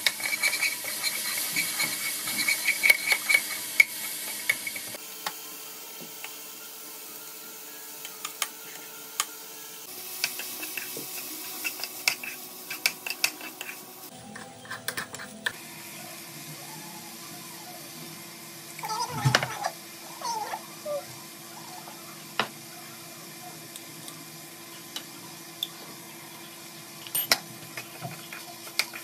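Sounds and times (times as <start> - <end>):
vegetables sizzling: 0.0 - 14.2, 17.9 - 29.0.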